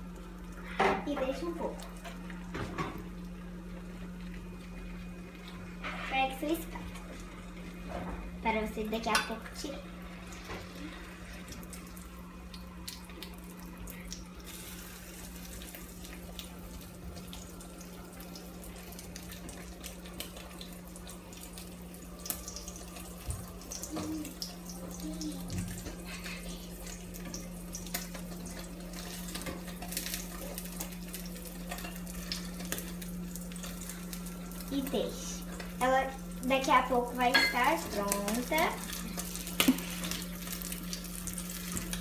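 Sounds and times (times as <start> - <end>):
egg sizzling in a frying pan: 0.0 - 42.0
hot oil crackling and popping: 0.0 - 42.0.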